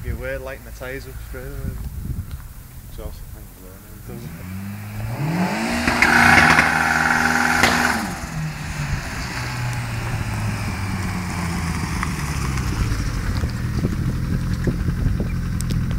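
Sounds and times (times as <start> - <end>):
car engine idling: 0.1 - 15.9.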